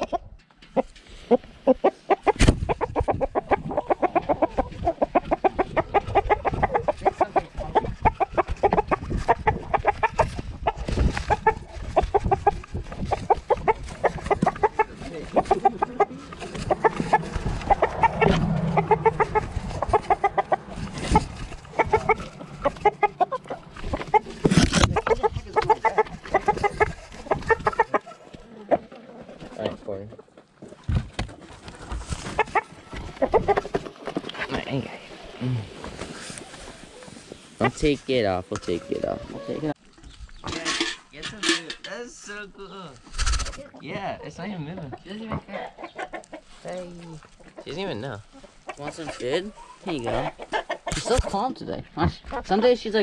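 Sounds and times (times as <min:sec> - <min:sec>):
chicken clucking: 0:00.0 - 0:31.0, 0:31.6 - 0:40.9, 0:43.1 - 0:53.0.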